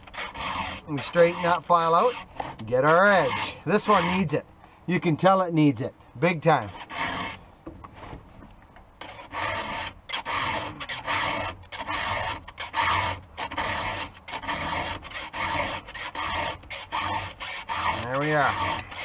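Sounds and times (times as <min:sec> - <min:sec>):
file rasping on chainsaw chain: 0:00.0 - 0:04.4, 0:06.5 - 0:07.4, 0:09.0 - 0:19.0.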